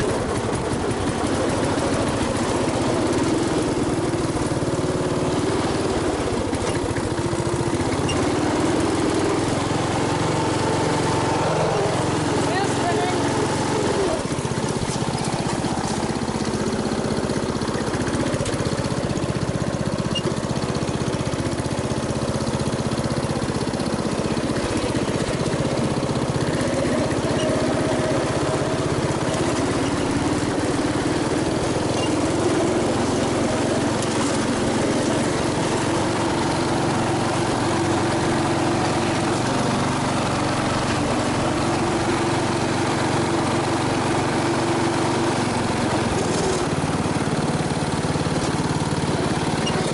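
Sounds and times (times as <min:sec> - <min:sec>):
riding mower engine running: 0:00.0 - 0:49.9.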